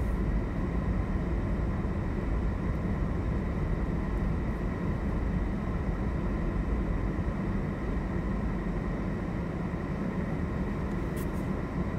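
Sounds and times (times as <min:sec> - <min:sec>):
faint steady hum: 0:00.0 - 0:11.9
low rumbling background noise: 0:00.0 - 0:11.9.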